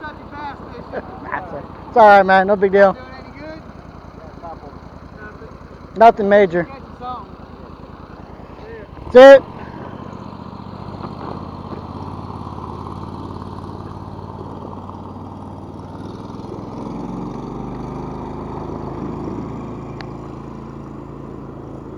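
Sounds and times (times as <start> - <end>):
small boat motor running: 0.0 - 21.9.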